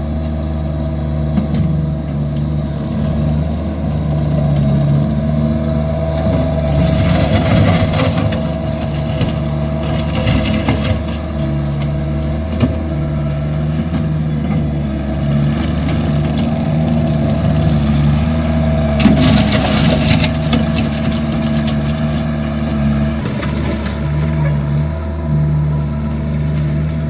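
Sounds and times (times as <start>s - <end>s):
gravel clatter: 0.0s - 27.0s
skid steer engine running: 0.0s - 27.0s.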